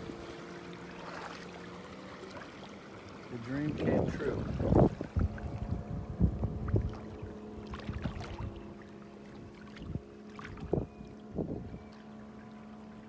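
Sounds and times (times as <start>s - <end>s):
paddle splashing in water: 0.0s - 12.7s
steady low hum: 0.0s - 13.0s.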